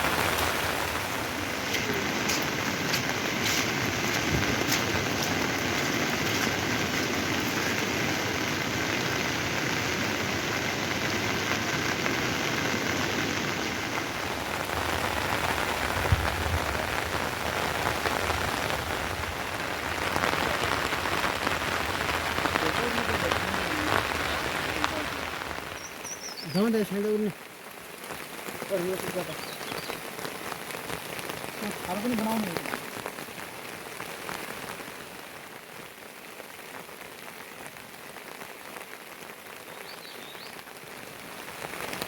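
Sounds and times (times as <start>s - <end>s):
rain pattering on surfaces: 0.0s - 42.0s.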